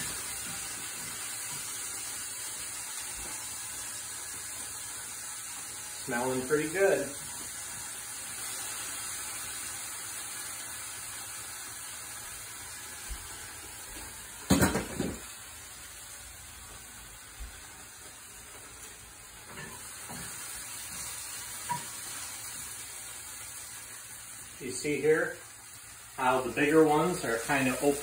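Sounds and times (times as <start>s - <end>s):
pods sizzling in oil: 0.0s - 28.0s.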